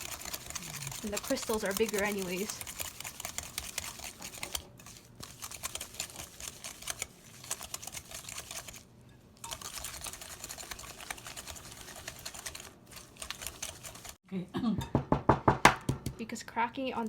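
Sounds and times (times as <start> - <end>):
utensil scraping a bowl: 0.0 - 14.2.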